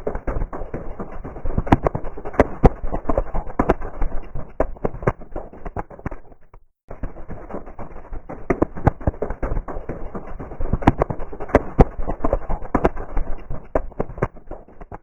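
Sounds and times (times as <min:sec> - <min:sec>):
knocks and taps: 0:00.0 - 0:15.0.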